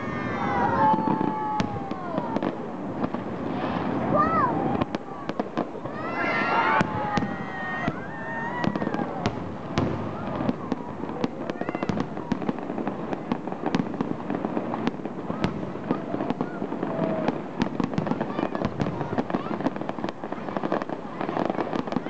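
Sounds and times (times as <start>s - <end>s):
fireworks bangs and crackling pops: 0.0s - 22.0s.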